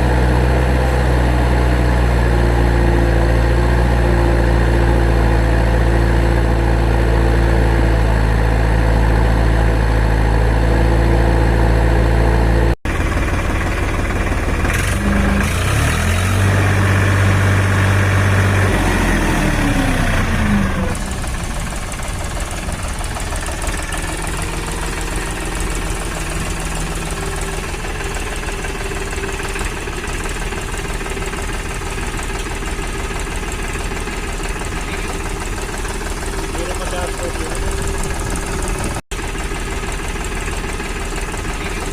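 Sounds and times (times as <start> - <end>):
heavy vehicle engine running: 0.0 - 41.9.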